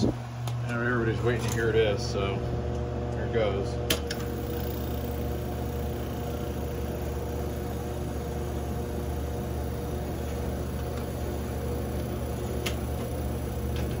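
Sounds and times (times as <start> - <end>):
air conditioner humming: 0.0 - 14.0
fan whir of moving air: 0.0 - 14.0.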